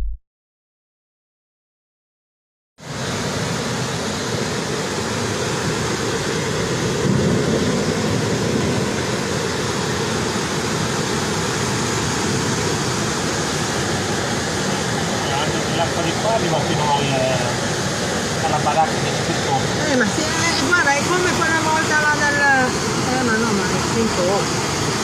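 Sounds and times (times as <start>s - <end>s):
floodwater rushing: 2.8s - 25.0s.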